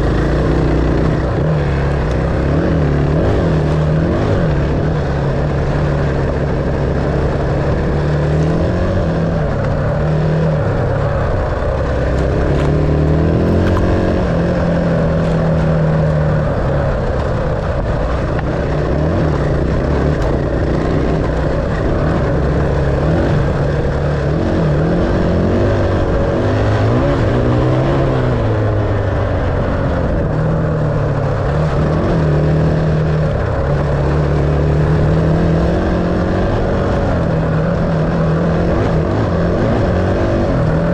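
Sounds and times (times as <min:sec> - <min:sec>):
dirt bike engine revving: 0:00.0 - 0:10.6, 0:11.3 - 0:15.8, 0:18.4 - 0:28.7, 0:31.2 - 0:40.9.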